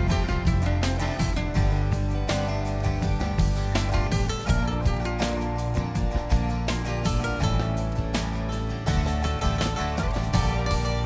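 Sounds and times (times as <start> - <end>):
country music with strummed guitar: 0.0 - 11.0.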